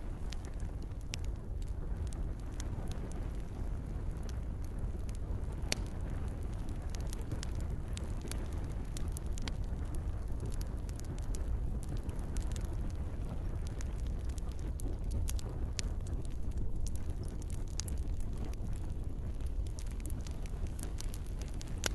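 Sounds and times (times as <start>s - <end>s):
campfire crackling: 0.0s - 21.9s.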